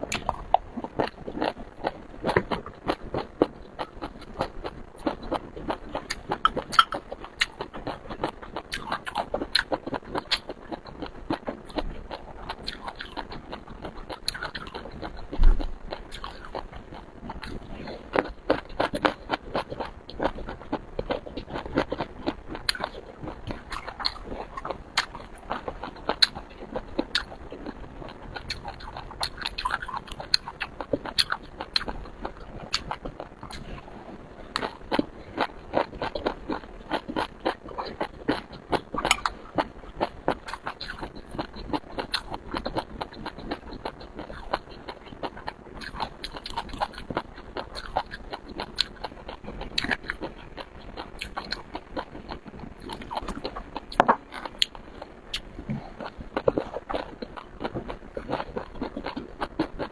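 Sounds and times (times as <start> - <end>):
chewing crunchy seafood: 0.0 - 59.9.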